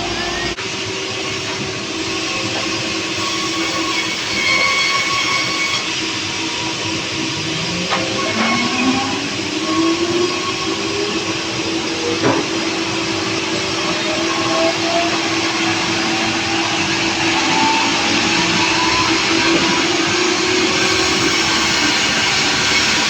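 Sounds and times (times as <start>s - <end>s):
sawmill saw cutting log: 0.0s - 23.0s.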